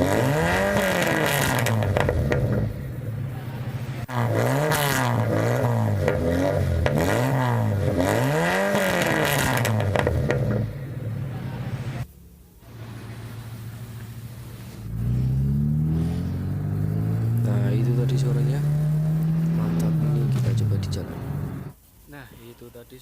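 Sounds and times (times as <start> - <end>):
car engine revving: 0.0 - 21.8.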